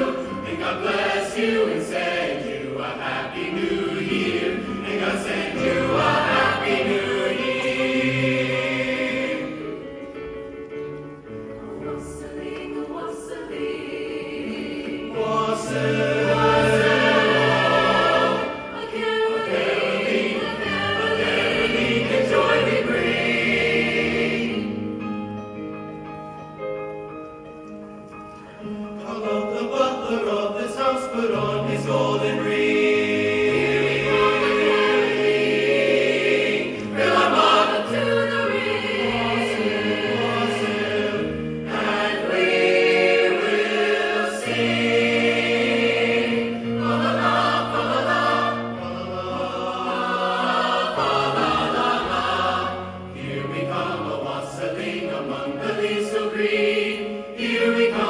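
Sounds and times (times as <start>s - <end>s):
choir singing: 0.0s - 10.4s, 11.2s - 25.4s, 28.6s - 58.0s.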